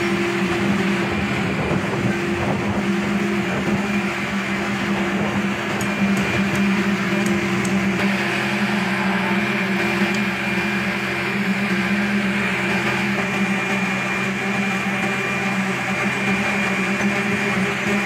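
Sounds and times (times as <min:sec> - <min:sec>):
concrete paver mechanical hum: 0:00.0 - 0:18.0.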